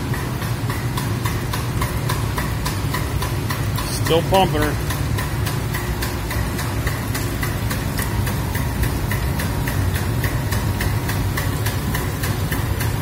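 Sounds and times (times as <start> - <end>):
machinery humming: 0.0 - 13.0
regular ticking: 0.0 - 13.0
sap boiling hard: 0.0 - 13.0.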